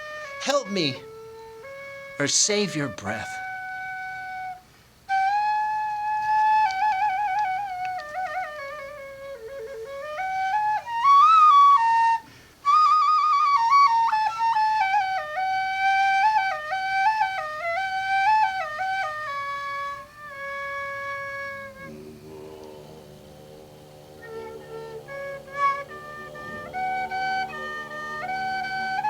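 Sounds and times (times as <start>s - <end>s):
solo flute melody with trills: 0.0s - 22.8s, 24.2s - 29.0s.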